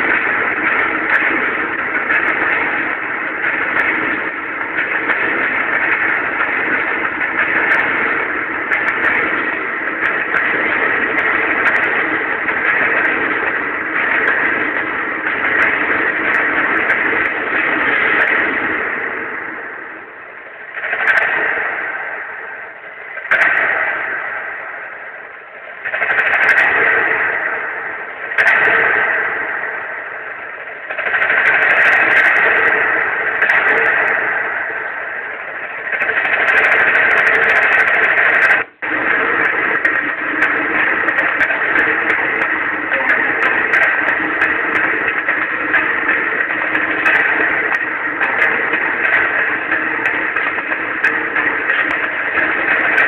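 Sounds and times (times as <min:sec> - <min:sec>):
snare drums: 0:00.0 - 0:19.9, 0:20.6 - 0:24.9, 0:25.8 - 0:30.1, 0:30.7 - 0:53.0.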